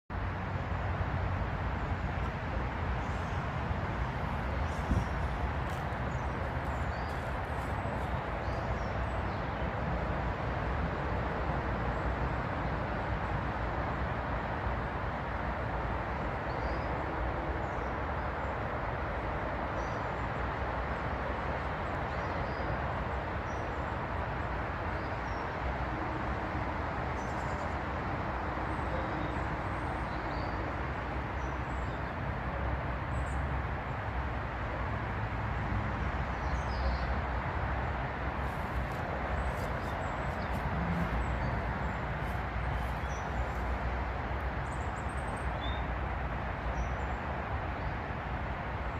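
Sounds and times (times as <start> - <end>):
low rumbling background noise: 0.1 - 48.9.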